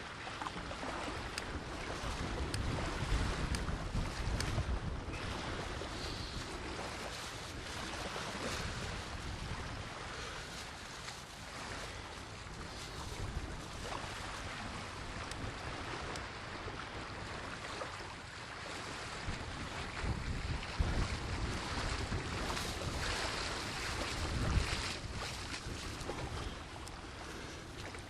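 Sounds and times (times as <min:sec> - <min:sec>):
sea surf washing on shore: 0:00.0 - 0:28.0
wind blowing across microphone: 0:01.1 - 0:17.8, 0:19.0 - 0:28.0.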